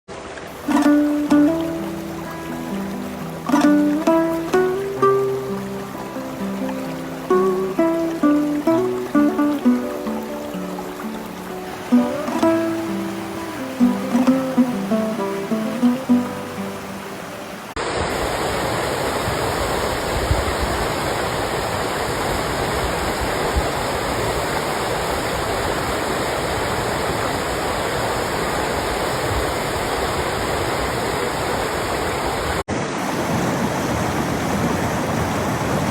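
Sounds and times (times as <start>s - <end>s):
rushing water: 0.1s - 35.9s.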